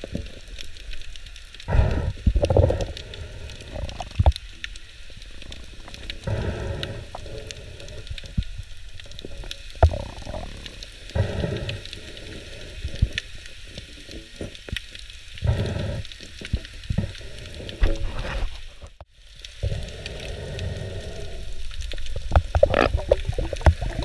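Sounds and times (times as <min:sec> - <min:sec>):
underwater crackle of clicks: 0:00.0 - 0:24.0.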